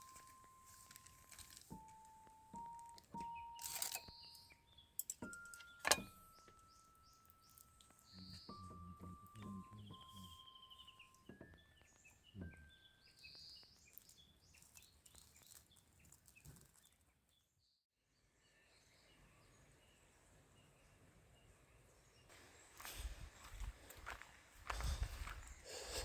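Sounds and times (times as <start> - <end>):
birds chirping: 0.0 - 17.0, 18.7 - 26.0.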